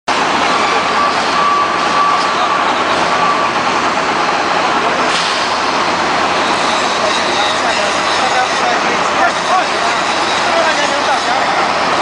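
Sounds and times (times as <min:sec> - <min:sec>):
heavy machinery running: 0:00.1 - 0:12.0.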